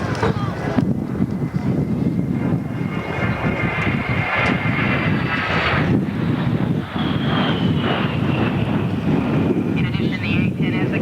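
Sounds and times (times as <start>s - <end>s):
jet engine whine and rumble: 0.0s - 11.0s.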